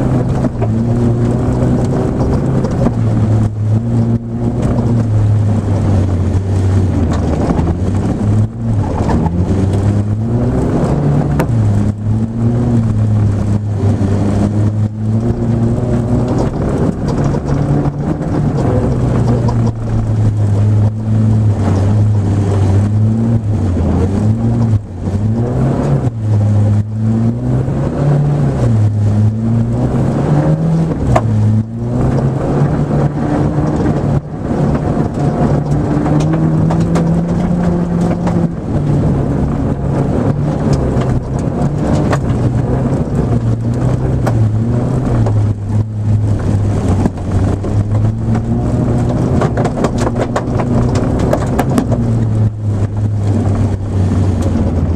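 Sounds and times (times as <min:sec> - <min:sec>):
rally car engine revving: 0:00.0 - 0:54.9.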